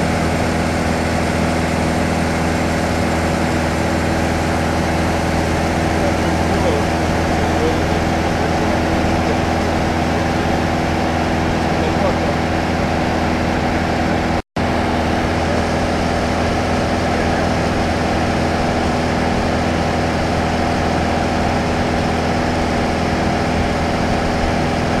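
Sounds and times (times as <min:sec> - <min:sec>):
aircraft engine and propeller drone: 0:00.0 - 0:25.0.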